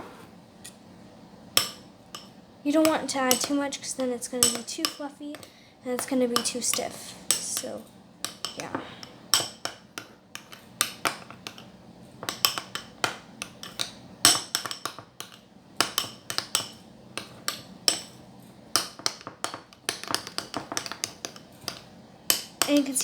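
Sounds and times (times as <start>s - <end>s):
utensil clinking against bowl: 1.6s - 18.2s, 18.8s - 23.0s.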